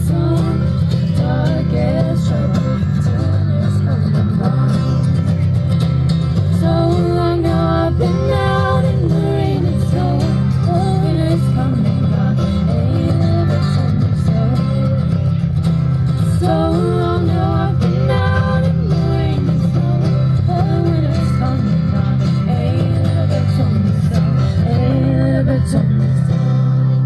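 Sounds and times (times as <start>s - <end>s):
acoustic guitar: 0.0s - 27.0s
banjo: 0.0s - 27.0s
upright bass: 0.0s - 27.0s.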